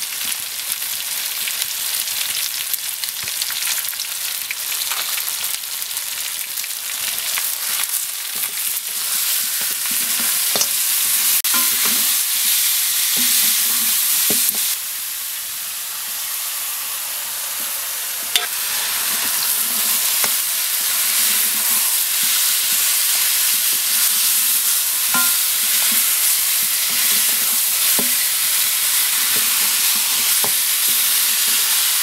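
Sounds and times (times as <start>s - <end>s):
meat sizzling in a pan: 0.0s - 32.0s.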